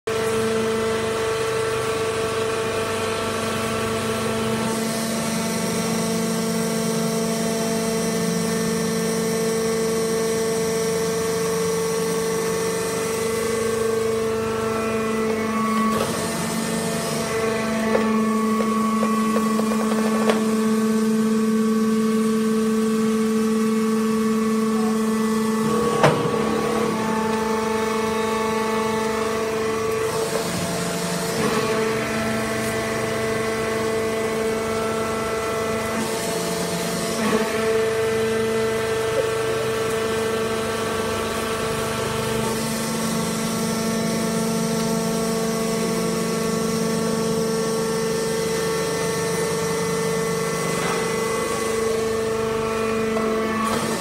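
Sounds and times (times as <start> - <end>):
baler motor humming: 9.9 - 54.0.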